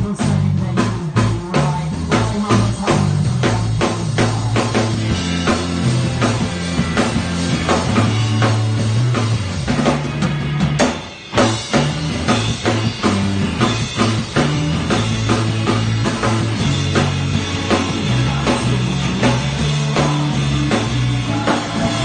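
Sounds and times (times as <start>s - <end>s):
rock music with drums and bass: 0.0s - 22.0s.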